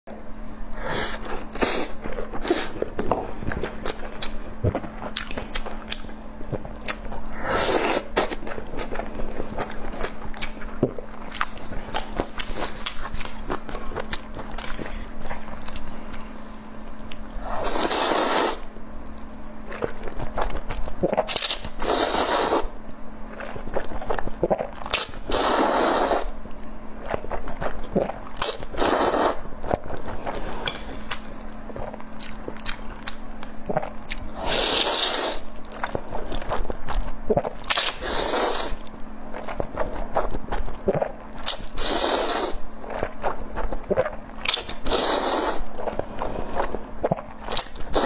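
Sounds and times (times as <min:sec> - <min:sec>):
person chewing food: 0:00.7 - 0:48.0.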